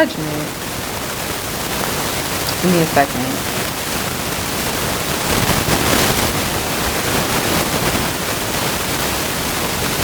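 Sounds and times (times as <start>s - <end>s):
static hiss: 0.0s - 10.0s.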